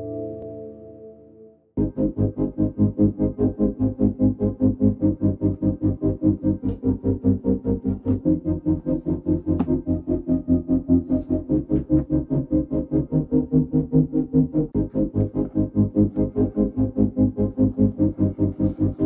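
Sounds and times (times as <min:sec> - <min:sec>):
synthesizer music with pulsing beat: 0:00.0 - 0:19.0.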